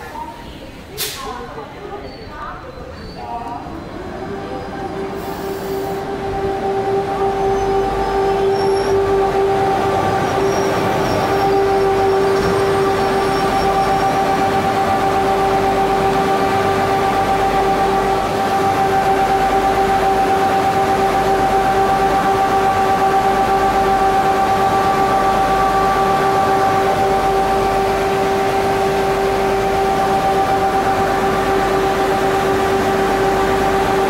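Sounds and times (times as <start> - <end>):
locomotive blower motors whining: 3.2 - 34.0.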